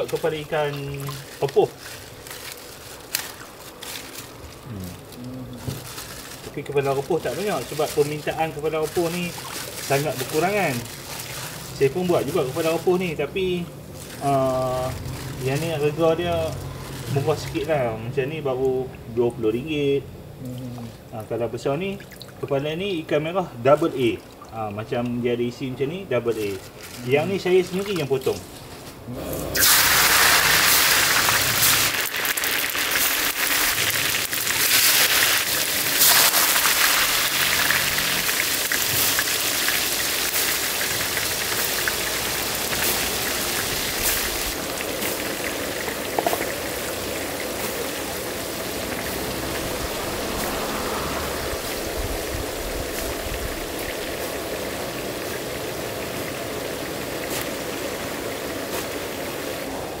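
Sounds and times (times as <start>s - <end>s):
spices sizzling in hot oil: 0.0s - 18.0s, 25.8s - 60.0s.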